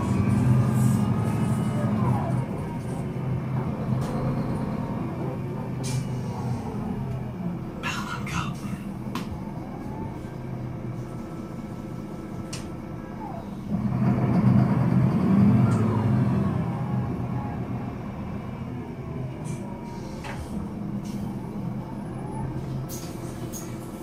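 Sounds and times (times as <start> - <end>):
diesel bus engine idling: 0.0 - 24.0.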